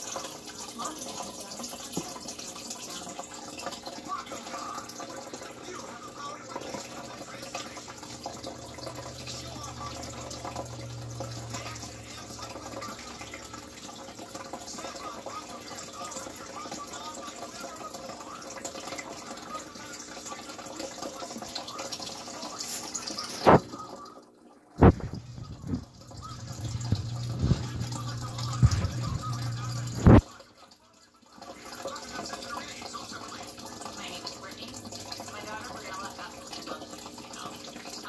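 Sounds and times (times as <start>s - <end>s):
water trickling and splashing: 0.0s - 38.0s.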